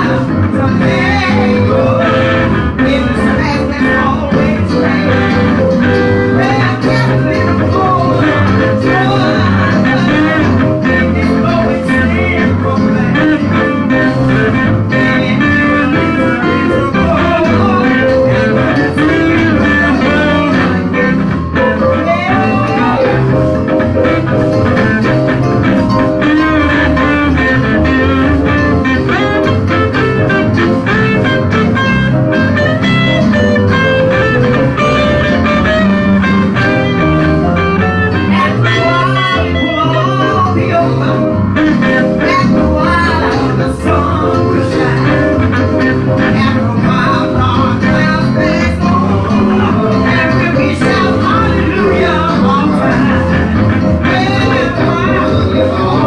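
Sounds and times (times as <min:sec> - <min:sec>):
church band playing gospel music: 0:00.0 - 0:56.0
lead guitar bending notes: 0:00.0 - 0:56.0.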